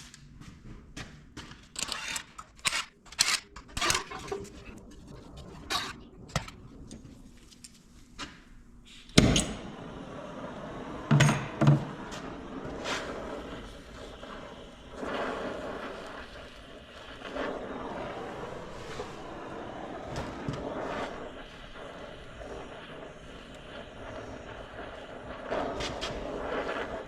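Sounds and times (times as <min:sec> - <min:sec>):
steady noise: 0:01.8 - 0:27.0.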